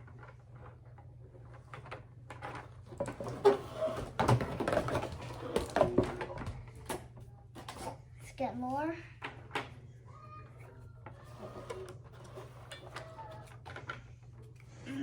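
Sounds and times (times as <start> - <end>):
plastic rustling and clattering: 0.0 - 8.0, 10.5 - 14.6.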